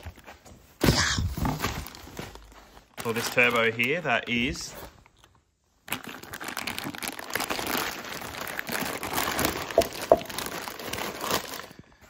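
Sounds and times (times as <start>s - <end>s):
plastic bag crinkling: 1.8s - 12.0s.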